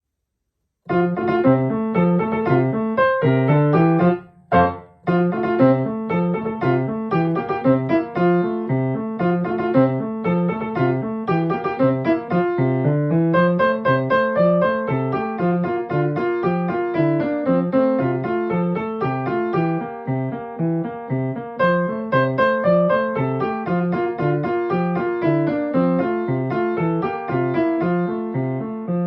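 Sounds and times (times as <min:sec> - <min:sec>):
solo piano playing: 0:00.9 - 0:29.0.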